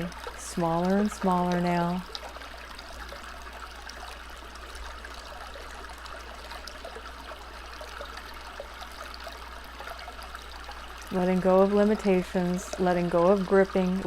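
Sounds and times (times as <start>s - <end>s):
stream babbling over stones: 0.0s - 14.0s.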